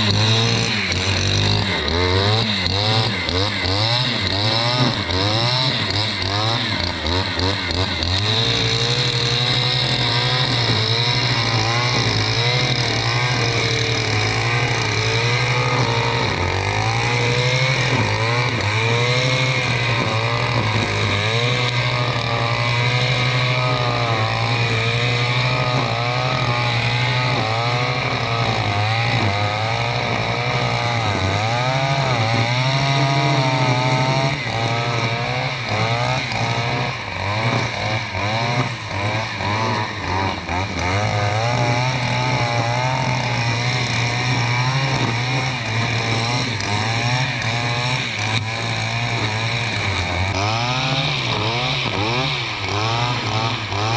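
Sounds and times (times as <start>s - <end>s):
brushcutter engine at high revs: 0.0s - 53.9s.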